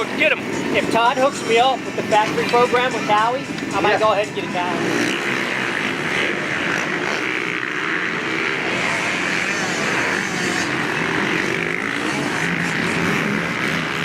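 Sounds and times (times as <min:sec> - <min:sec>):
dirt bike engine running hard: 0:00.0 - 0:14.0.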